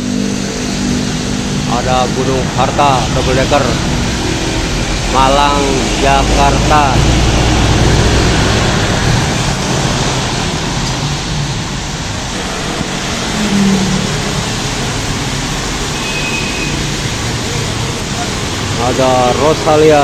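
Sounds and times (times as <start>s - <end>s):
bus diesel engine passing: 0.0s - 20.0s
tyres hissing on wet road: 0.0s - 20.0s.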